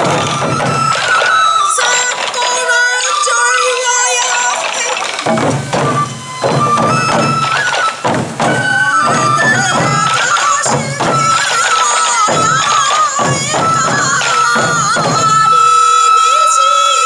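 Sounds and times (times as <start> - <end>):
taiko drums beaten together: 0.0 - 16.6
bamboo flute melody: 0.0 - 17.0.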